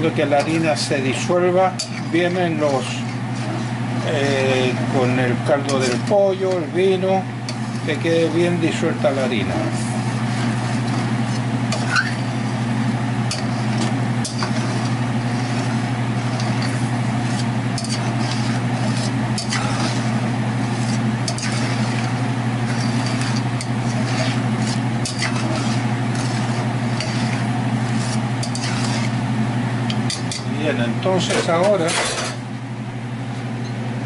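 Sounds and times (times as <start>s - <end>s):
steady low hum: 0.0s - 34.0s
metal spatula scraping skillet: 0.1s - 29.2s, 29.9s - 30.5s, 31.2s - 32.4s.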